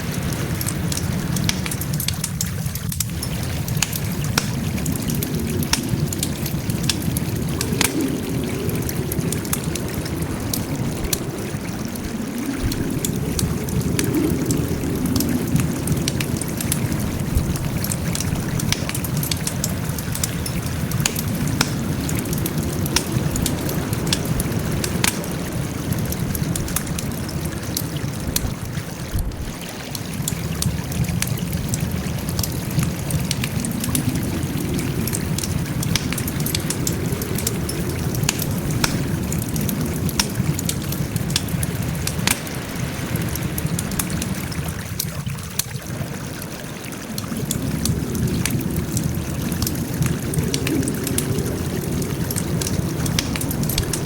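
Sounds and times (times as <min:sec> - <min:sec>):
campfire crackling and popping: 0:00.0 - 0:54.0
low rush of burning fire: 0:00.0 - 0:54.0.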